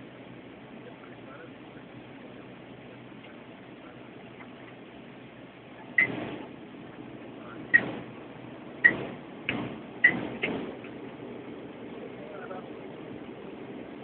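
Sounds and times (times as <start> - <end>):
turboprop cabin drone: 0.0 - 14.0.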